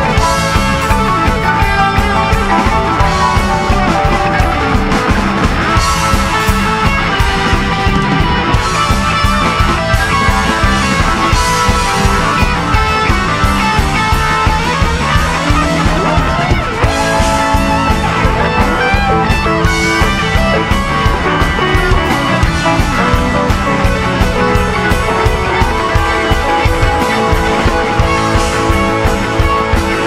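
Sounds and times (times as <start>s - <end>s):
bass guitar: 0.0s - 30.0s
drum kit: 0.0s - 30.0s
electric guitars soloing: 0.0s - 30.0s.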